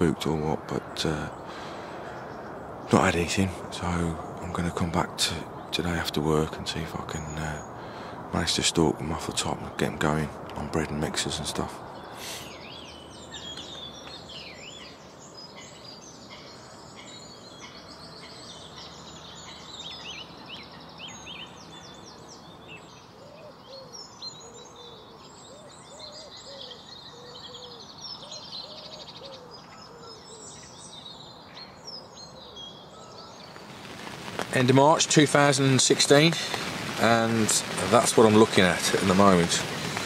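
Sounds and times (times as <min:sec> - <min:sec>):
faint outdoor hiss: 0:00.0 - 0:40.0
small birds chirping and trilling: 0:00.0 - 0:40.0.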